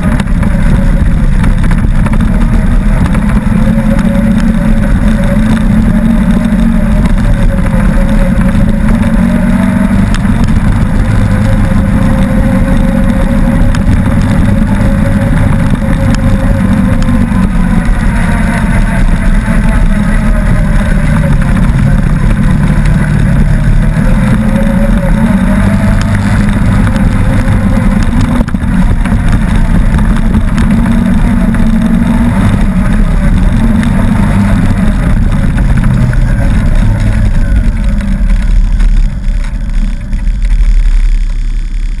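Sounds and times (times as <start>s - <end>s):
off-road vehicle engine running: 0.0s - 42.0s.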